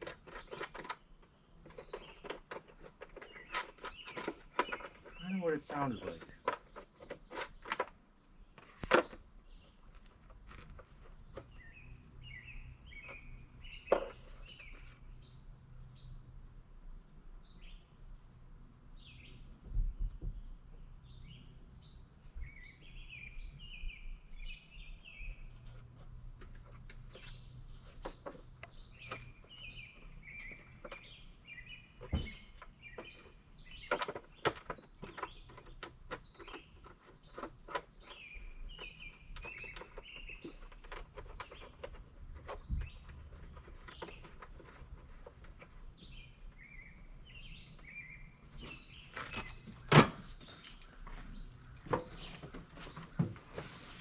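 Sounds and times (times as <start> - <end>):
birds chirping and singing: 0.0 - 16.4, 17.4 - 54.0.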